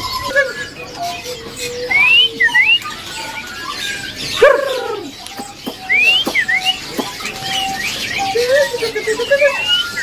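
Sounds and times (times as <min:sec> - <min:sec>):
songbirds calling: 0:00.0 - 0:10.0.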